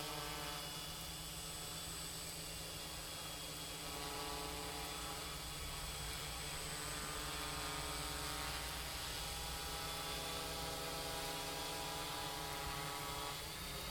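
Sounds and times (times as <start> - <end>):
quadcopter propellers buzzing: 0.0 - 13.9.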